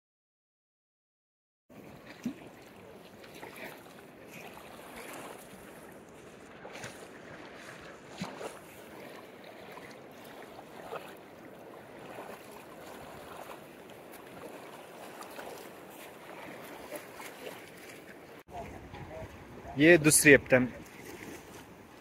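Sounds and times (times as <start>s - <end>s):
water splashing around wading legs: 1.7s - 19.6s, 20.7s - 22.0s.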